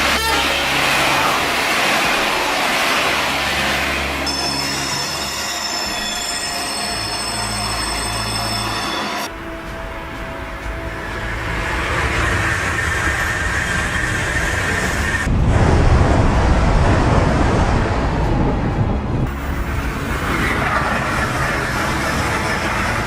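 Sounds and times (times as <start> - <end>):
moving train rushing: 0.0 - 23.0.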